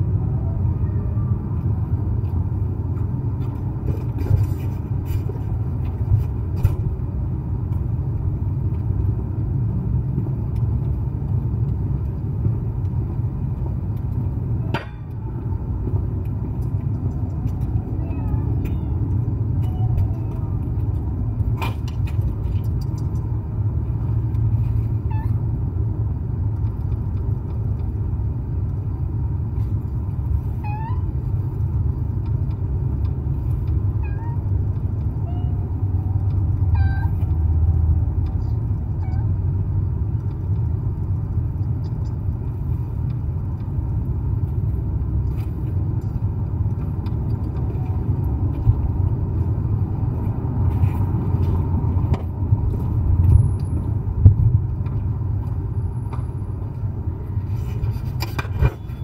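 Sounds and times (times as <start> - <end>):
wind rumble: 0.0 - 59.0.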